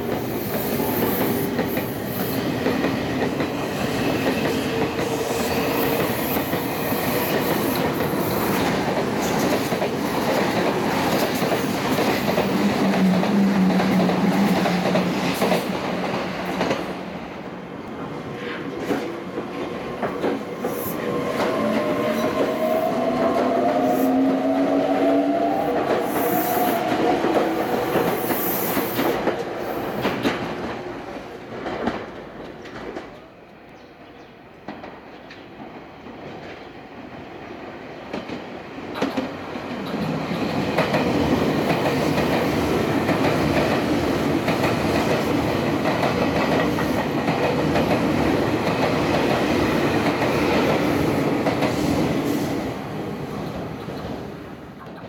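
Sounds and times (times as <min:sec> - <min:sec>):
electric trains on clattering wheels: 0:00.0 - 0:17.1, 0:17.9 - 0:33.2, 0:38.0 - 0:55.0.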